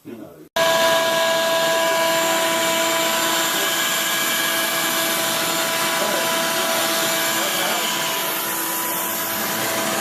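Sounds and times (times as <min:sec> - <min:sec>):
electric motor whine: 0:00.6 - 0:10.0.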